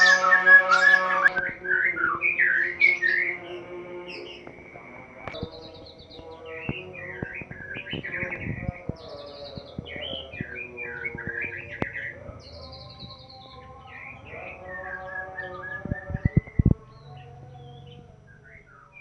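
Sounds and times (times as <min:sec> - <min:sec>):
bird singing whistles and trills: 0:00.0 - 0:19.0.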